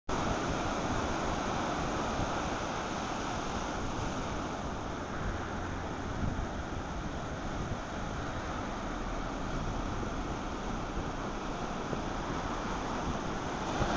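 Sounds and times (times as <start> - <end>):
ocean surf washing in: 0.1 - 13.9.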